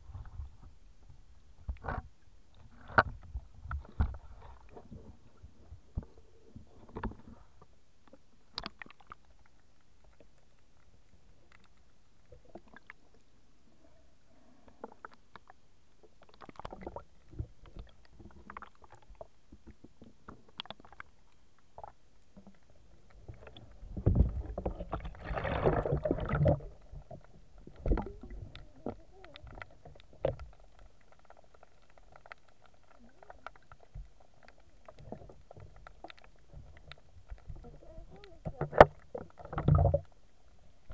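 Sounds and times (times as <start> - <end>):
faint underwater clicks and knocks: 0.0 - 13.4, 14.5 - 40.9.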